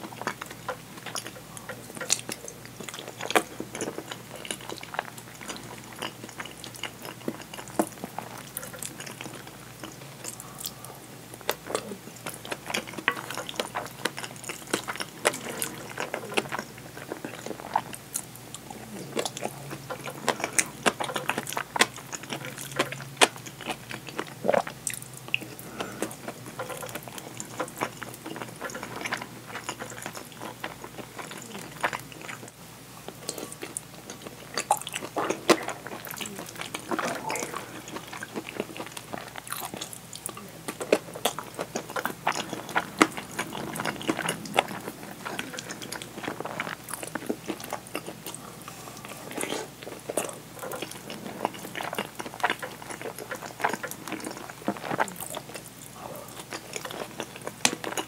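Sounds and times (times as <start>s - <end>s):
wet chewing sounds: 0.0s - 58.0s.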